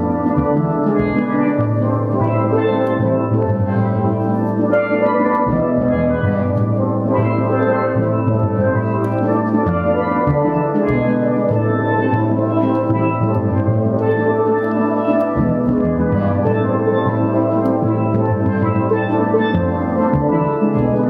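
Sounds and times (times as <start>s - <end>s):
low bass line: 0.0s - 21.0s
steelpan melody and chords: 0.0s - 21.0s.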